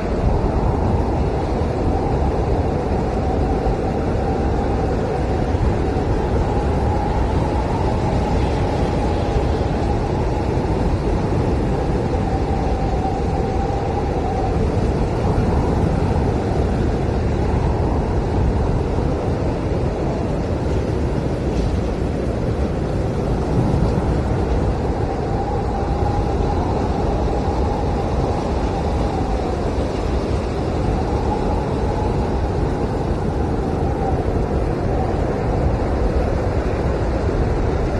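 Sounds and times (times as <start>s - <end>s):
blizzard wind rushing: 0.0s - 37.9s
whistling wind howl: 0.0s - 37.9s.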